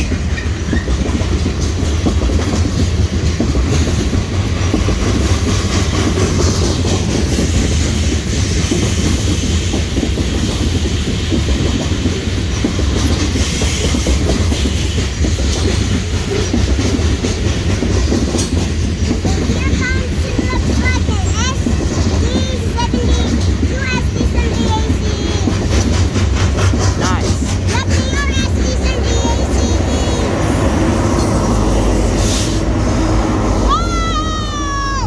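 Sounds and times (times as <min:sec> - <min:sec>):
train cars rumbling past: 0:00.0 - 0:35.0
wheels clacking over rail joints: 0:00.0 - 0:35.0.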